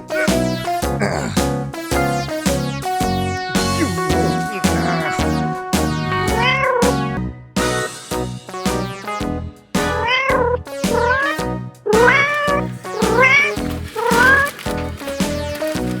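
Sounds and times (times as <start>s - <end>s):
background music with beat: 0.0s - 16.0s.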